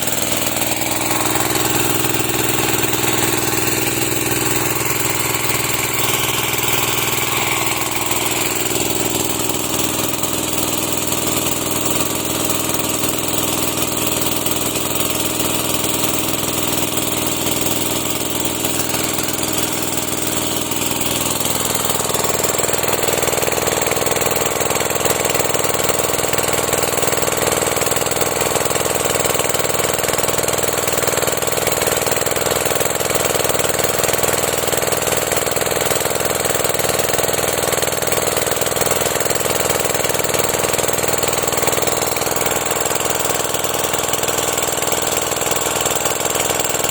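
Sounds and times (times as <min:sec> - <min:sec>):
engine-driven power sprayer running: 0:00.0 - 0:46.9.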